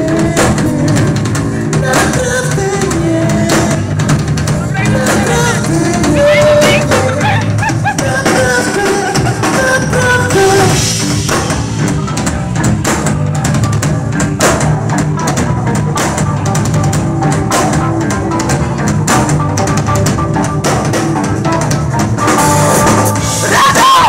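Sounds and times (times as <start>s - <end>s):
live rock band playing: 0.0s - 24.0s
bass drum and snare hits: 0.3s - 24.0s.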